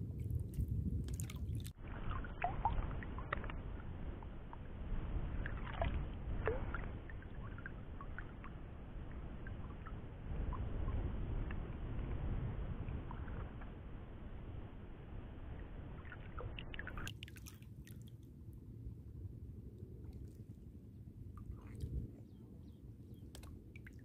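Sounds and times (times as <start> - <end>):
wind rumbling on microphone: 0.0 - 17.2, 17.9 - 24.0
water lapping and sloshing: 0.0 - 24.0.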